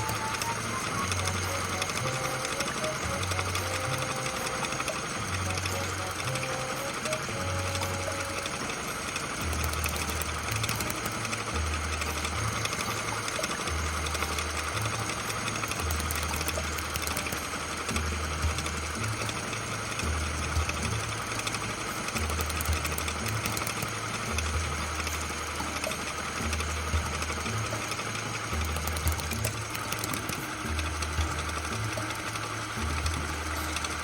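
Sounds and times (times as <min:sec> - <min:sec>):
background music with bass line: 0:00.0 - 0:34.0.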